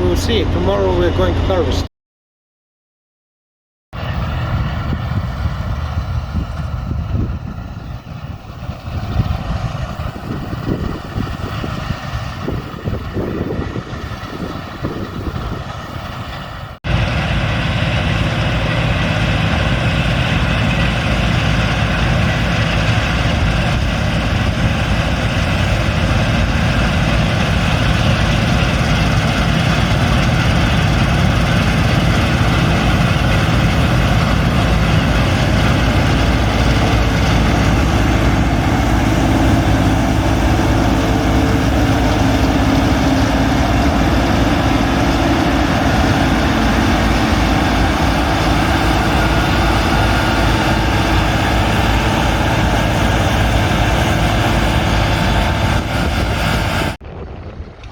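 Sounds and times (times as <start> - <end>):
combine harvester engine drone: 0.0 - 1.9, 4.0 - 57.9.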